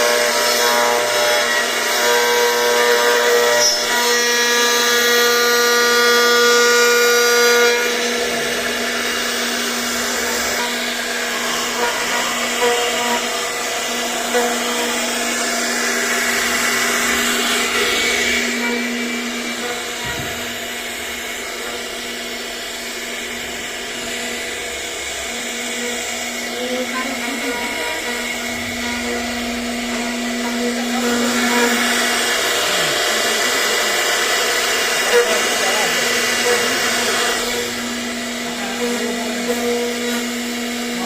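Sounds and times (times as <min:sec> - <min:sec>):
bit cutting into wood: 0:00.0 - 0:41.0
router spindle whine: 0:00.0 - 0:41.0.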